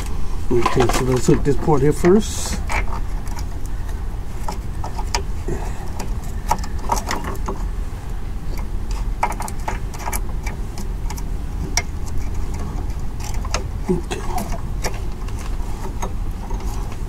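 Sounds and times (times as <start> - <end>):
small metallic clicks and rattles: 0.0 - 7.7, 8.5 - 17.0
steady low rumble: 0.0 - 17.0.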